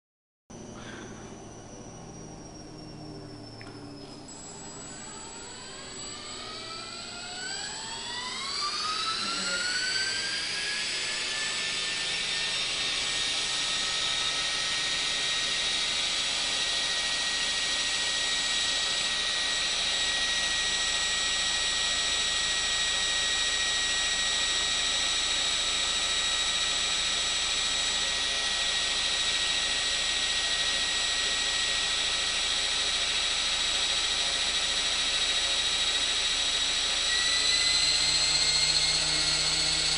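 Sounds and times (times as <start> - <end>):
electric motor whine: 0.6 - 39.9.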